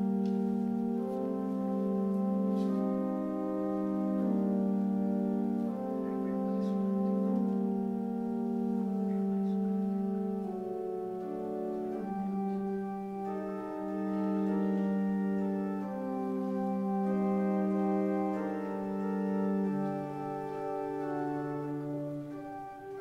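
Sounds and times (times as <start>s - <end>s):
organ playing sustained chords: 0.0s - 23.0s.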